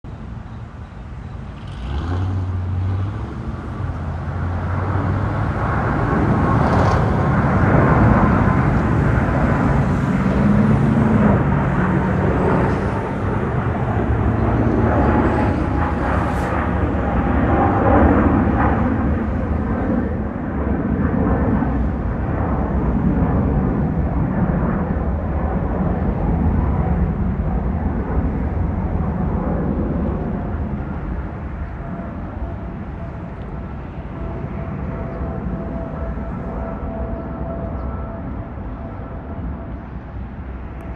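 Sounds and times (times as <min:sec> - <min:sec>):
jet engines rumbling: 0:00.1 - 0:40.9.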